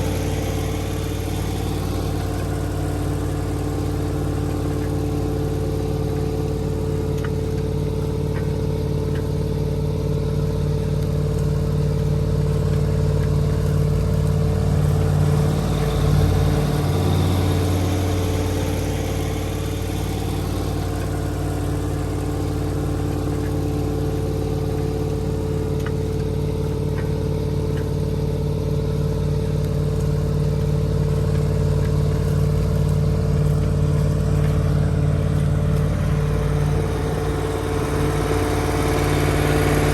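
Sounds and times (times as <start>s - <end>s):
diesel tractor engine under load: 0.0s - 39.9s.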